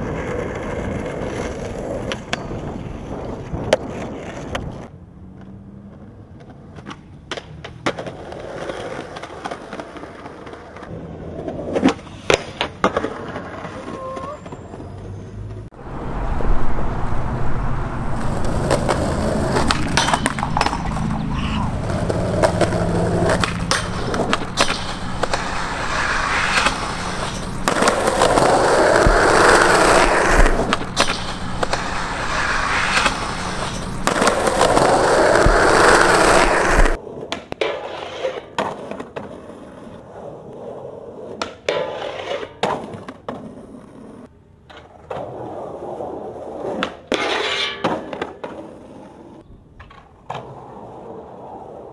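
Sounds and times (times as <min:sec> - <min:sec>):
skateboard pops and impacts: 0:00.0 - 0:05.6, 0:06.3 - 0:14.4, 0:18.2 - 0:40.0, 0:41.1 - 0:51.9
skateboard wheels rolling on concrete: 0:00.0 - 0:51.9.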